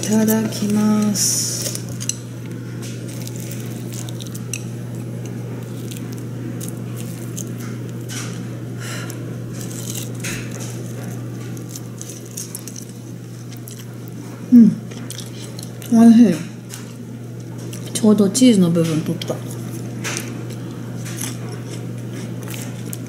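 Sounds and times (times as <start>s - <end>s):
chopsticks tearing crispy food: 0.0s - 14.2s, 14.9s - 16.0s, 19.5s - 23.0s
chewing: 0.0s - 18.0s, 19.4s - 23.0s.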